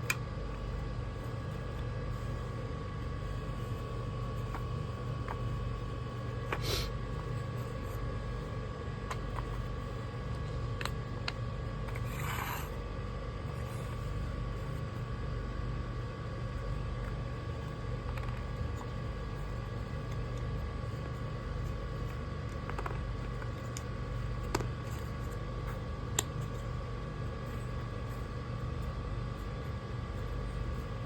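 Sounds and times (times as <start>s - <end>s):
faint steady whine: 0.0s - 31.0s.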